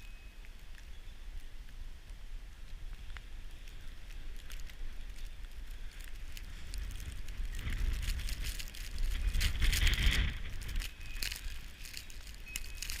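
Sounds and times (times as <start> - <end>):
crackles and clicks: 0.0 - 13.0
wind buffeting microphone: 1.9 - 13.0.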